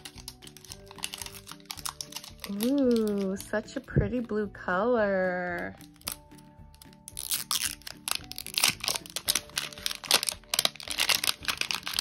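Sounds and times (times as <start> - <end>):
wrapping crinkling and crackling: 0.0 - 4.3, 5.5 - 12.0.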